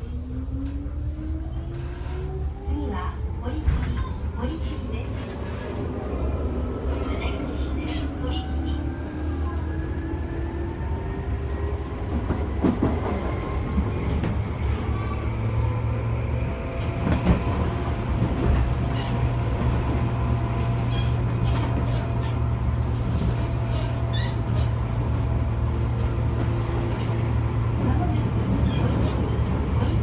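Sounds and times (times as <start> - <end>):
train running gear rumble: 0.0 - 30.0.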